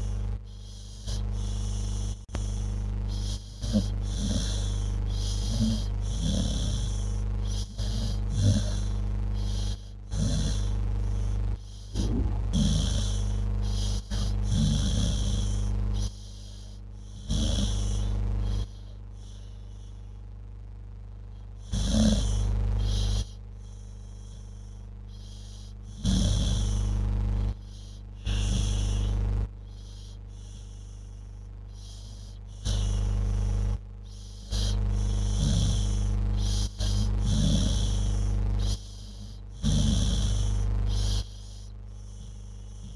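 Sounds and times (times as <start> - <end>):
dog breathing: 0.0 - 20.1, 21.4 - 42.9
dog snoring: 0.0 - 20.2, 21.3 - 42.9.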